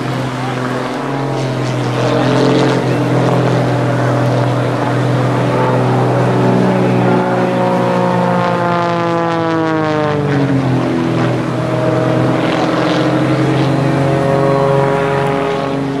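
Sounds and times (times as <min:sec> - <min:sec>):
propeller plane droning overhead: 0:00.0 - 0:16.0.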